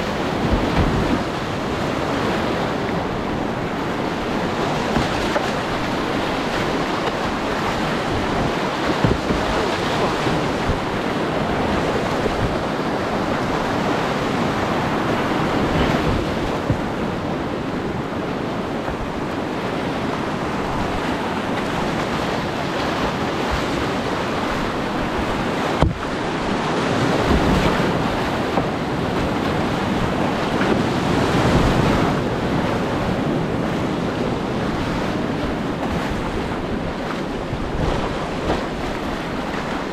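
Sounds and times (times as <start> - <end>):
paddle strokes splashing: 0.0 - 19.3, 20.0 - 32.9, 34.5 - 39.9
whitewater rushing and churning: 0.0 - 39.9.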